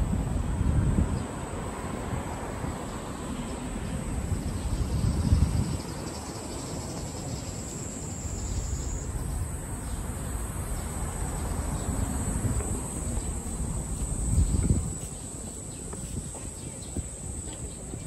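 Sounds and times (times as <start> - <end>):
insects droning: 0.0 - 18.0
low street noise rumble: 0.0 - 18.0.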